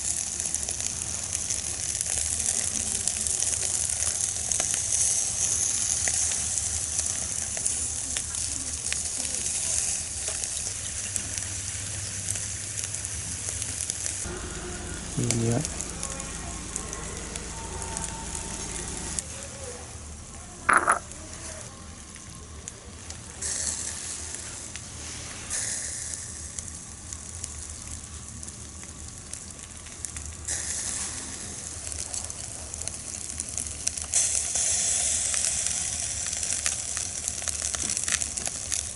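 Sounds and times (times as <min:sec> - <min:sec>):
fish sizzling on a grill: 0:00.0 - 0:38.9
wood fire crackling: 0:00.0 - 0:38.9.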